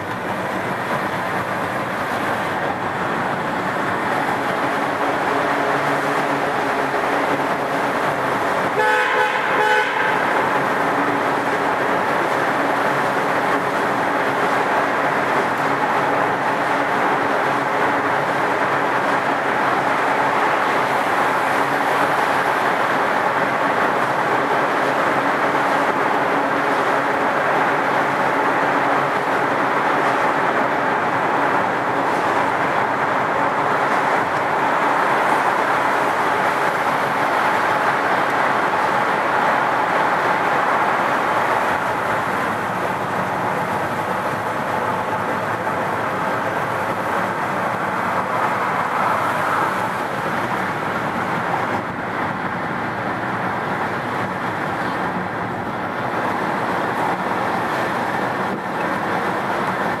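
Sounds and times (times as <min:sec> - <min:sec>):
car interior road noise: 0:00.0 - 1:00.0
passing traffic: 0:00.0 - 1:00.0.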